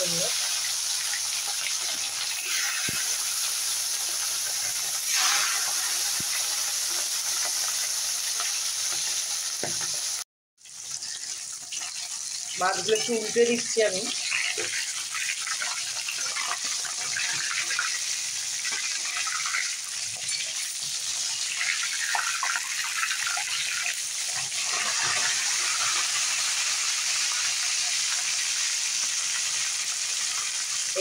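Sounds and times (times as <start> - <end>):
fish sizzling in oil: 0.0 - 31.0.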